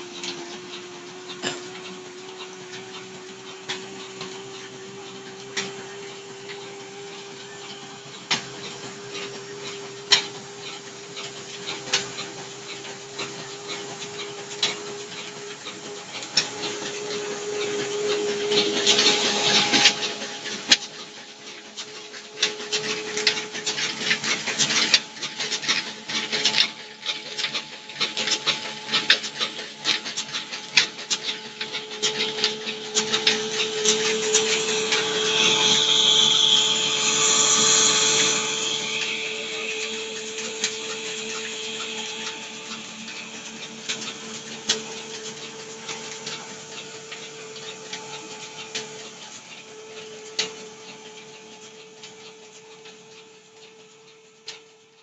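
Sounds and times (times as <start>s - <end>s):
grain mill whining: 0.0s - 55.0s
grain pouring hiss: 1.5s - 53.2s.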